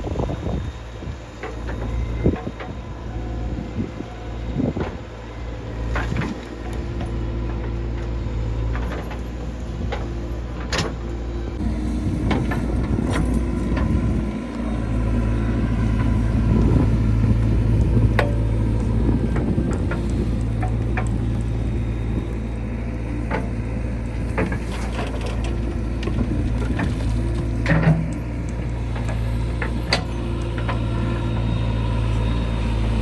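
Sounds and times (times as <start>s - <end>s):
backhoe diesel engine running: 0.0s - 33.0s.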